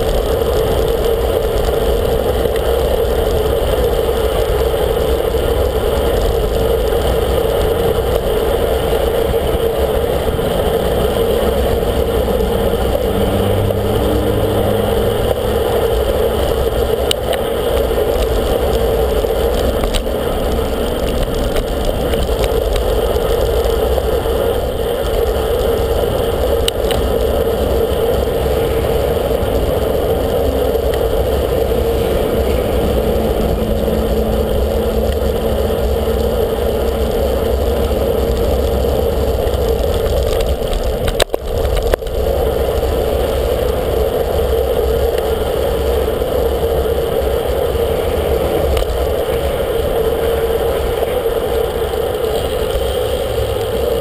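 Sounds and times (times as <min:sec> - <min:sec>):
car engines passing: 0:00.0 - 0:54.0
wind and road noise: 0:00.0 - 0:54.0.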